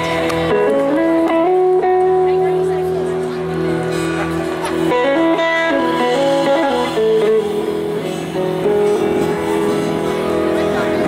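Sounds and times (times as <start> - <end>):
electric guitars playing melody: 0.0 - 11.0.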